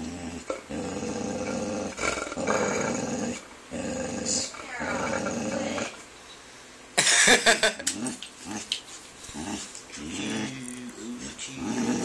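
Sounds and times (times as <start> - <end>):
dog growling and grumbling: 0.0 - 6.0, 7.8 - 12.0.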